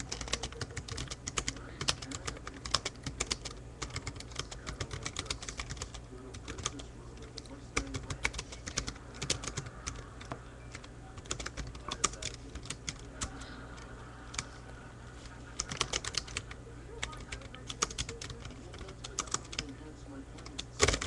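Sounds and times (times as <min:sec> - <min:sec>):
typing on computer keyboard: 0:00.0 - 0:14.6, 0:15.5 - 0:19.7, 0:20.4 - 0:21.0.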